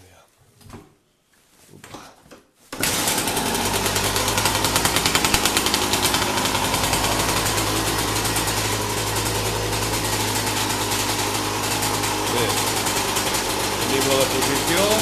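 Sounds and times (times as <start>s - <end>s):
dirt bike engine idling: 2.8s - 15.0s.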